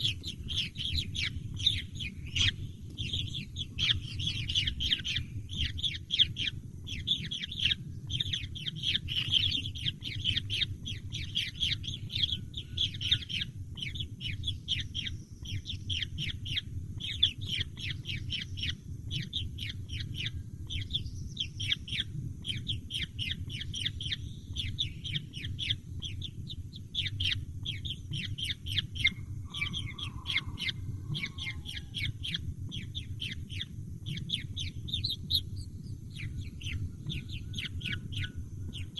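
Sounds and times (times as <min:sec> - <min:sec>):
baby birds chirping: 0:00.0 - 0:38.9
steady low rumble: 0:00.0 - 0:38.9.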